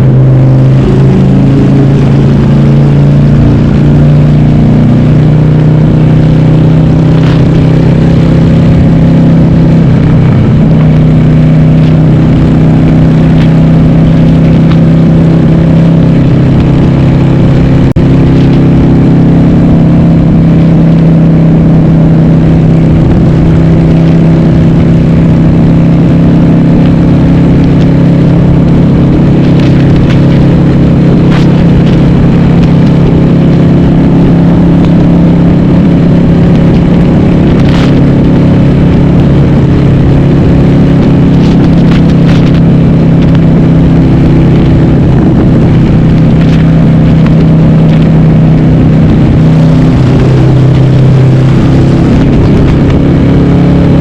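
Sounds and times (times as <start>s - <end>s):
loud motorcycle engine running: 0.0s - 54.0s.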